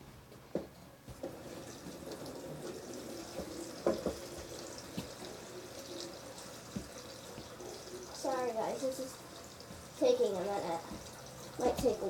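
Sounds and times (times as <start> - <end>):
water running from a tap: 1.1 - 12.0.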